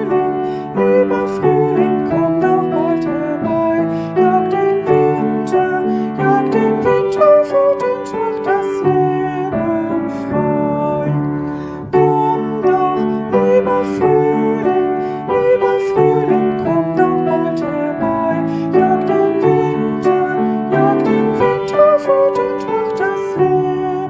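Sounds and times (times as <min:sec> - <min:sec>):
piano melody over chords: 0:00.0 - 0:24.0.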